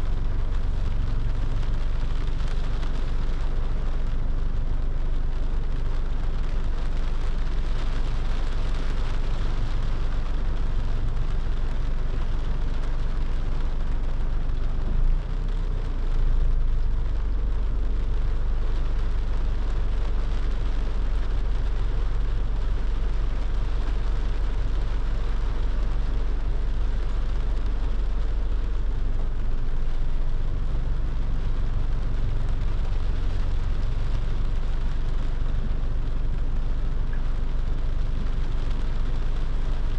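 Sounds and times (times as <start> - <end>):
rain hissing: 0.0 - 39.9
road and engine rumble: 0.0 - 39.9.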